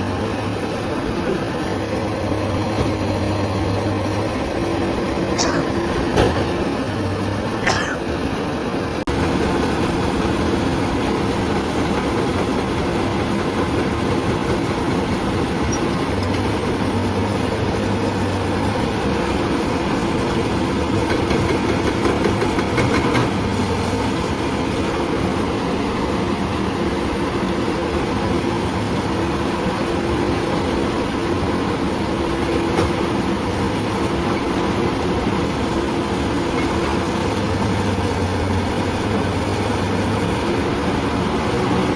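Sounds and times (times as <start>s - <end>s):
diesel engine under load: 0.0s - 41.9s.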